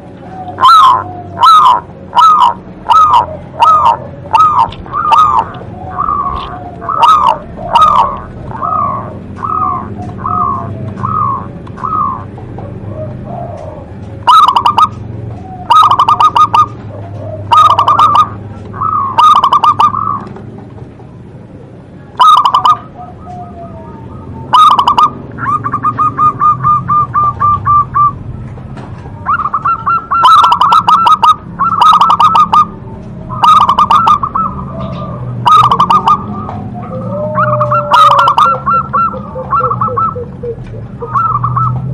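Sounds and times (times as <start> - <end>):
dove cooing: 0.0 - 20.6, 21.5 - 41.9.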